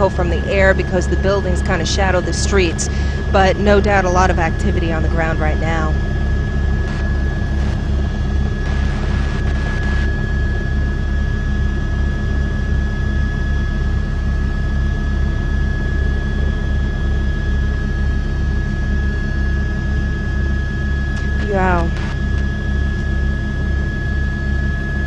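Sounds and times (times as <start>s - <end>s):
helicopter rotor beat: 0.0s - 25.0s
high whine: 0.0s - 25.0s.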